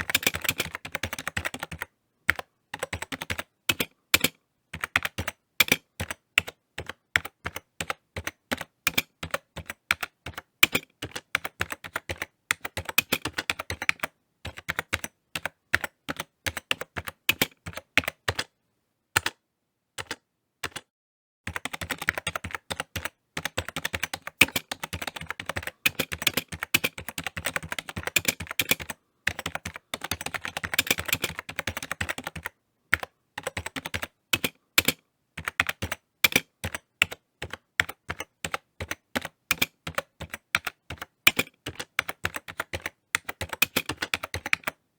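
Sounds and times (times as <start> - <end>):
typing on computer keyboard: 0.0 - 18.5, 19.2 - 19.4, 20.0 - 20.9, 21.5 - 44.9.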